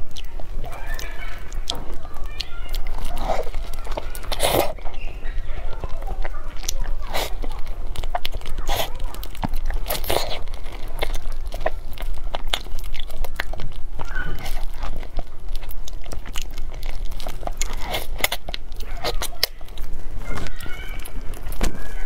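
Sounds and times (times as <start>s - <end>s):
wet chewing mouth sounds: 0.0s - 22.0s
plastic glove crinkle: 0.6s - 22.0s.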